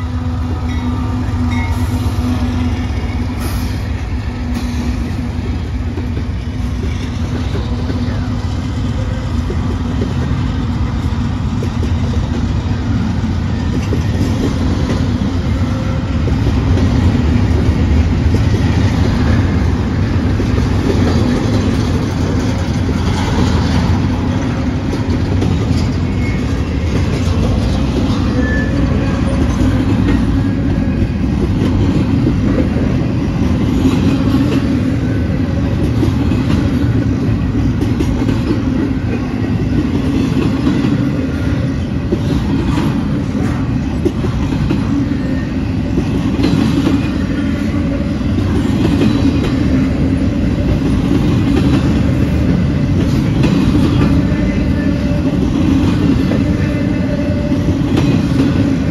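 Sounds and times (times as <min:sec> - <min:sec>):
freight train wheels rumbling: 0:00.0 - 0:58.9
wheels clacking on rail: 0:00.0 - 0:58.9.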